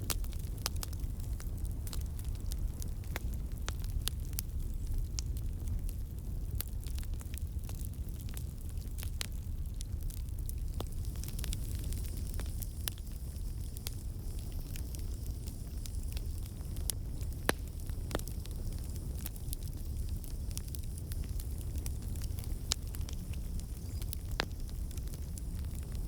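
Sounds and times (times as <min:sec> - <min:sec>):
burning wood crackling and popping: 0:00.0 - 0:26.0
campfire flames rumbling: 0:00.0 - 0:26.0.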